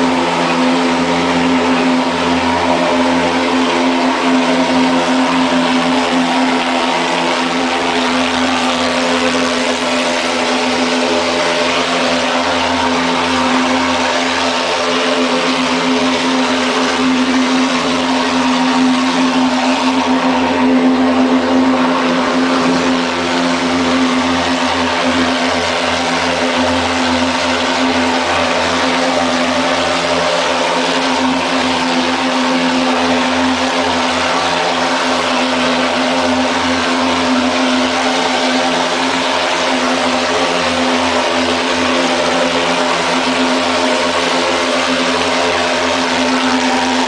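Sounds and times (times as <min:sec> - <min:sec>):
fogging machine droning: 0:00.0 - 0:47.0.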